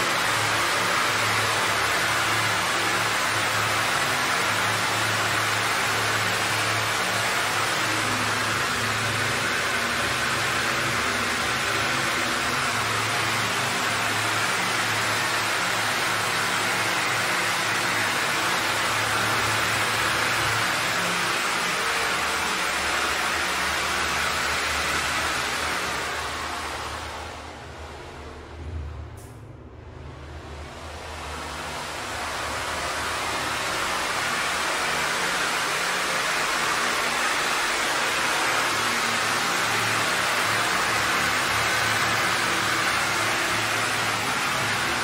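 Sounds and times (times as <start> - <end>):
steam hissing: 0.0 - 27.5, 30.6 - 45.0.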